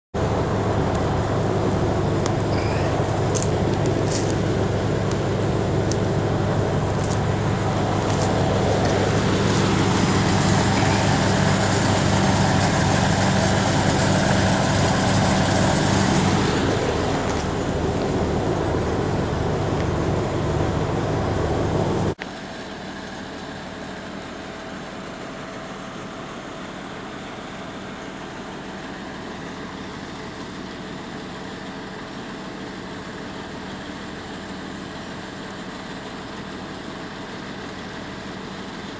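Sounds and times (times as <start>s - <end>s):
diesel engines running: 0.2s - 38.9s
distant diesel idle: 0.2s - 38.9s.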